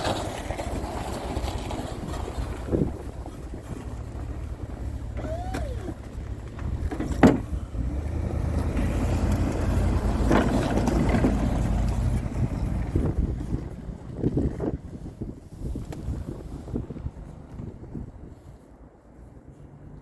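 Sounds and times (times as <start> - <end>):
wind buffeting microphone: 0.0 - 19.5
truck engine rumbling: 0.0 - 20.0.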